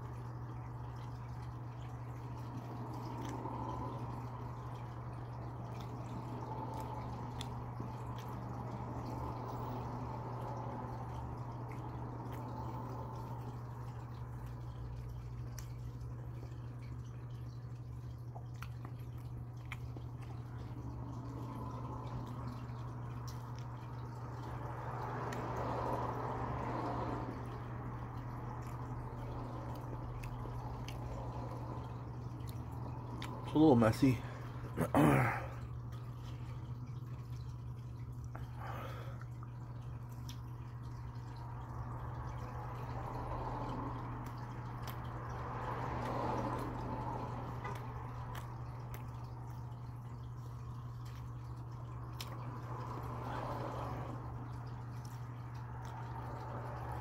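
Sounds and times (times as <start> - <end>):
steady low hum: 0.0 - 57.0
wet chewing: 1.0 - 41.1, 43.8 - 57.0.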